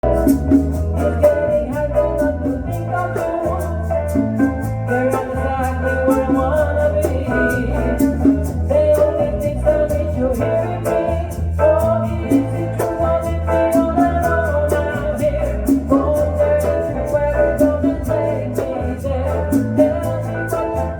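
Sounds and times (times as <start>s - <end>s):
congas and bongos: 0.0s - 20.9s
electric bass: 0.0s - 20.9s
guitar: 0.0s - 20.9s
keyboard: 0.0s - 20.9s.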